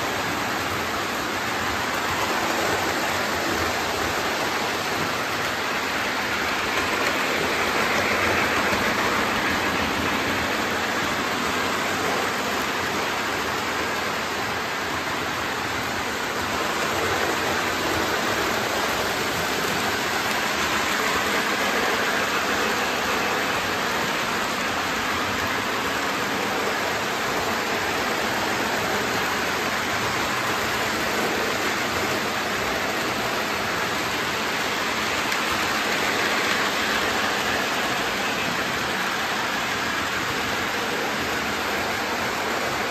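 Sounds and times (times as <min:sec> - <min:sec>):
model trains rumbling on track: 0:00.0 - 0:42.9.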